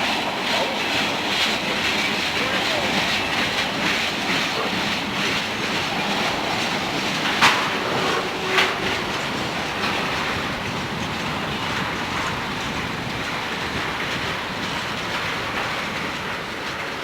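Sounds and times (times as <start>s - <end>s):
freight cars rolling past: 0.0s - 17.0s
wheels clicking over rail joints: 0.0s - 17.0s.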